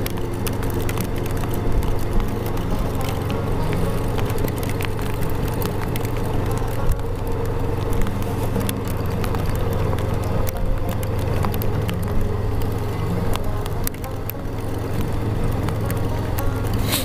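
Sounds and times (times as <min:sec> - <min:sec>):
gravel ticking against bike: 0:00.0 - 0:17.0
motorcycle engine running: 0:00.0 - 0:17.0
tyres rolling on gravel: 0:00.0 - 0:17.0.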